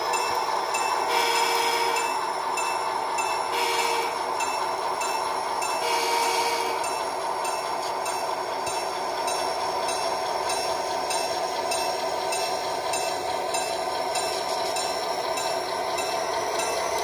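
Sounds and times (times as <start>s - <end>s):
light regular track clicks: 0.0s - 17.0s
model train running hum: 0.0s - 17.0s.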